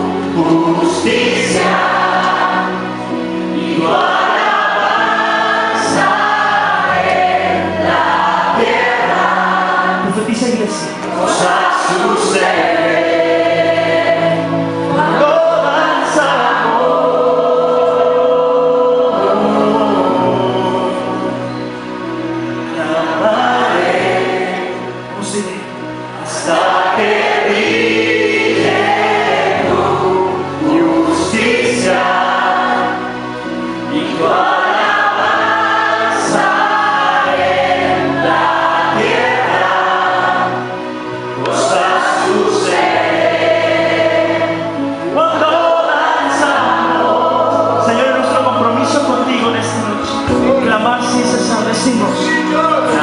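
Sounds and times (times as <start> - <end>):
bass and keyboard chords: 0.0 - 53.0
group singing worship song: 0.0 - 53.0.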